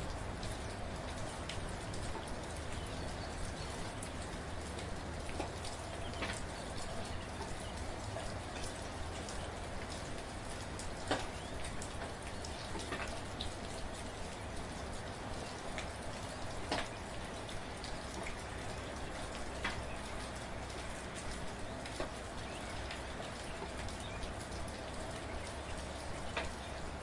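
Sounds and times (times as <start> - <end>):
soft rain: 0.0 - 27.0.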